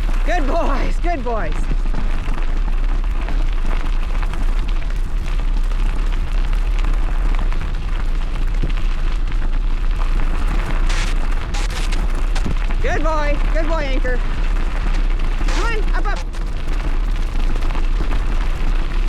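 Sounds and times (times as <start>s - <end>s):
bike rolling on trail: 0.0s - 19.0s
wind rumble on microphone: 0.0s - 19.0s.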